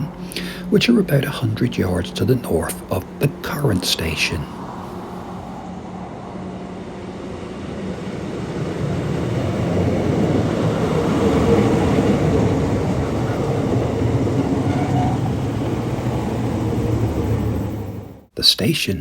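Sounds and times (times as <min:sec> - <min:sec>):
diesel train passing: 0:00.0 - 0:18.3.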